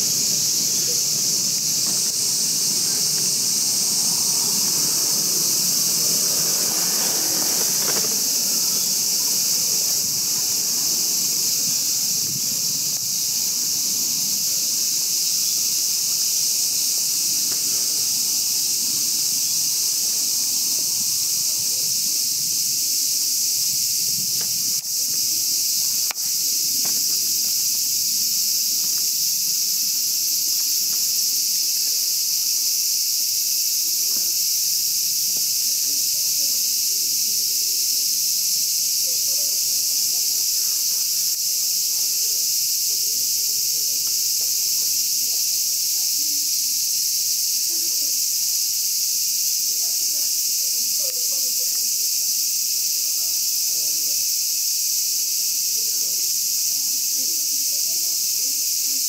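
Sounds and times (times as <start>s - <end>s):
insects shrilling: 0.0s - 59.0s.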